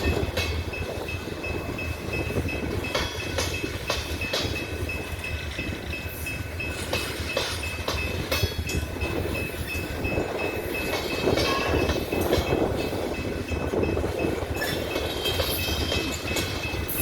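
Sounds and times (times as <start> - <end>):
clanks from wheels and couplers: 0.0 - 17.0
train cars rumbling on rails: 0.0 - 17.0.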